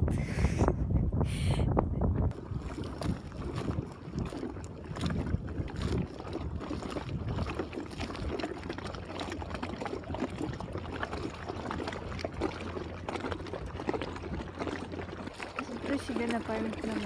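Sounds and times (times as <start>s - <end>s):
small waves lapping: 2.3s - 17.0s.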